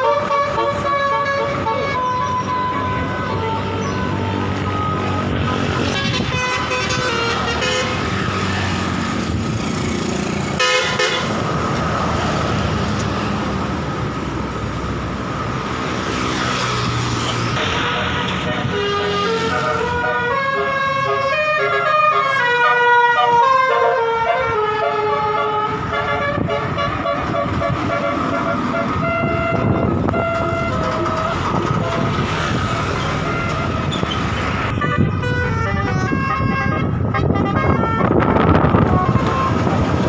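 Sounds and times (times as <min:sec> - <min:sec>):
multi-tone bus horn tune: 0:00.0 - 0:09.4, 0:10.4 - 0:11.5, 0:17.5 - 0:40.0
bus engine and road noise: 0:00.0 - 0:40.0.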